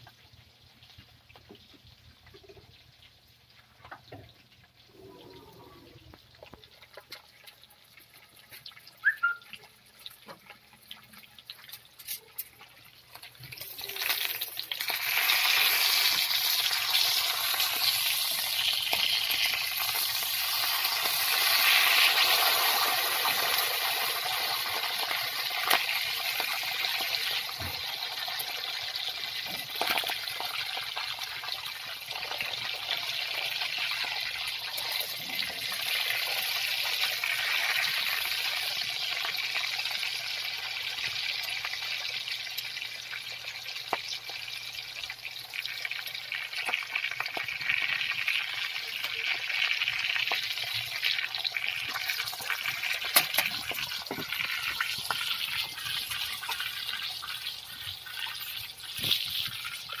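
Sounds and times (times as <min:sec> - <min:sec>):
chicken sizzling in hot oil: 0:00.0 - 1:00.0.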